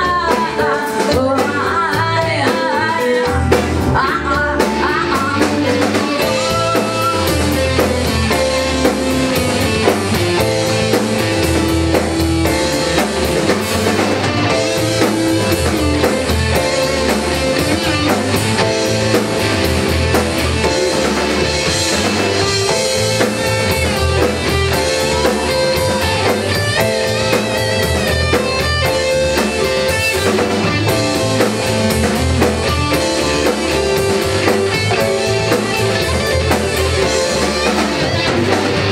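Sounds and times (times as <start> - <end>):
drum kit steady beat: 0.0 - 38.9
electric guitars: 0.0 - 38.9.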